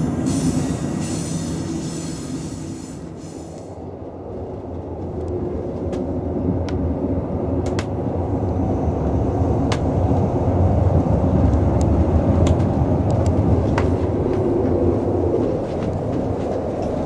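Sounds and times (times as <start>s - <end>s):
train carriage rumbling on track: 0.0s - 17.0s.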